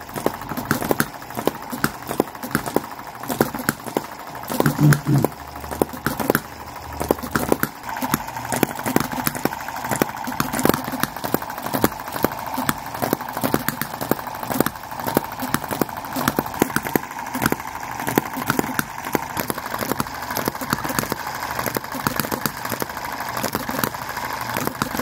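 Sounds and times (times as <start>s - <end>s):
small petrol engine knocking: 0.0s - 25.0s.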